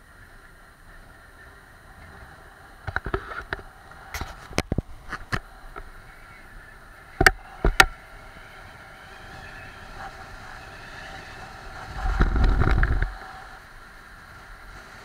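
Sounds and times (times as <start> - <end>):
wind and road noise hiss: 0.0 - 15.0.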